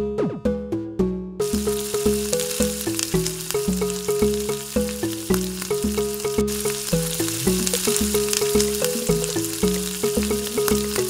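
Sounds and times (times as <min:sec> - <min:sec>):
background music with bass line: 0:00.3 - 0:11.0
spices sizzling in hot oil: 0:01.4 - 0:11.0.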